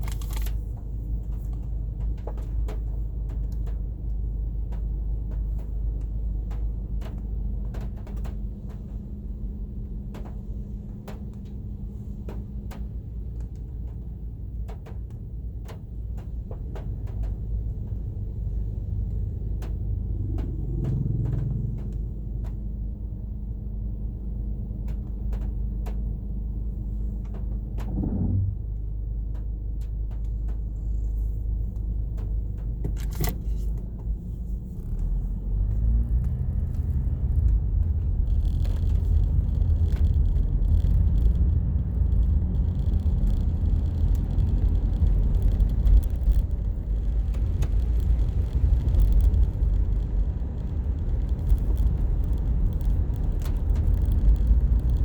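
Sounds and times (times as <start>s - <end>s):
light ticks: 0.0s - 22.6s, 29.3s - 55.0s
car engine hum: 0.0s - 55.0s
road rumble and tyre hiss: 0.0s - 55.0s.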